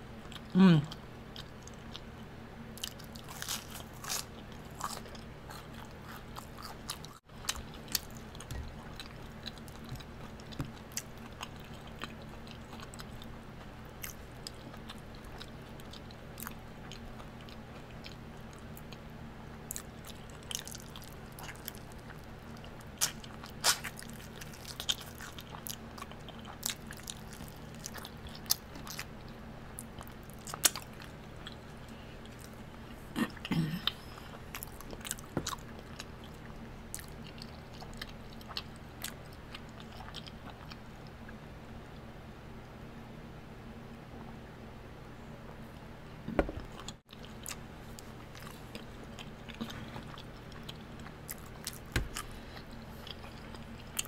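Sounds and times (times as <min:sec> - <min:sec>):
steady low hum: 0:00.0 - 0:54.0
person chewing and smacking: 0:01.4 - 0:19.0, 0:19.7 - 0:40.8, 0:46.6 - 0:54.0.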